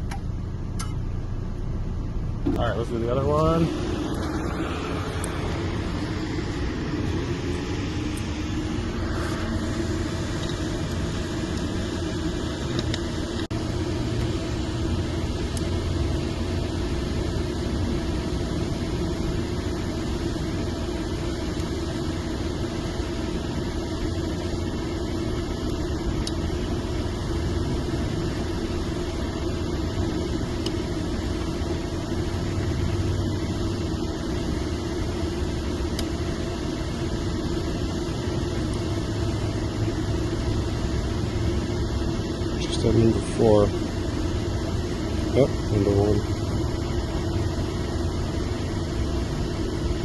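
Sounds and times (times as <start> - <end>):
steady mechanical hum: 0.0 - 50.0.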